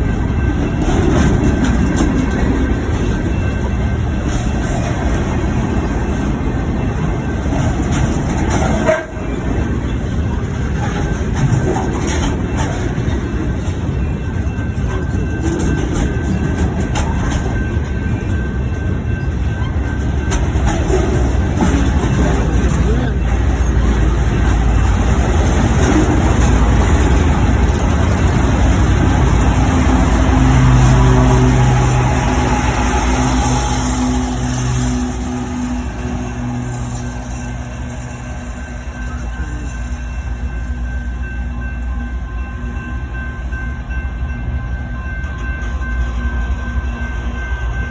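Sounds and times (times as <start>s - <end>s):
train rumbling by: 0.0s - 47.9s.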